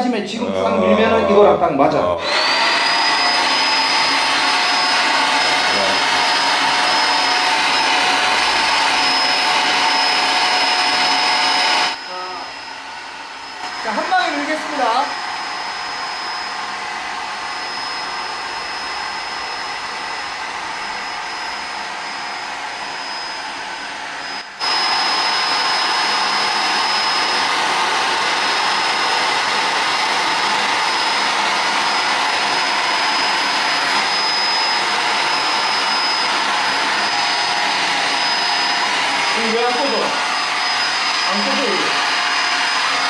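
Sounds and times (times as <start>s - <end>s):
hair clipper high whine: 0.0s - 43.0s.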